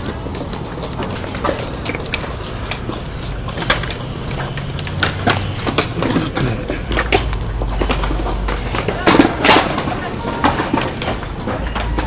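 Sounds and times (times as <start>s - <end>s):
skateboard wheels rolling on concrete: 0.0s - 12.0s
skateboards clacking on ground: 0.0s - 12.0s.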